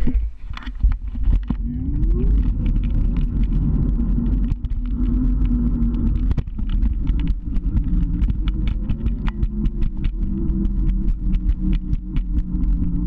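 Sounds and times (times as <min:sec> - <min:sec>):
motor scooter engine running: 0:01.4 - 0:13.0.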